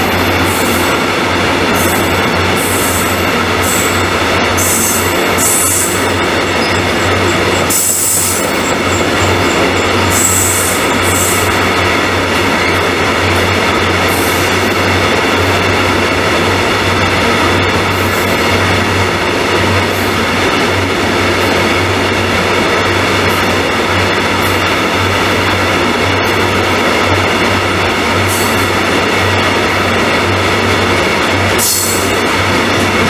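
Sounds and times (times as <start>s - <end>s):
steel wheels rumbling on rails: 0.0s - 33.0s.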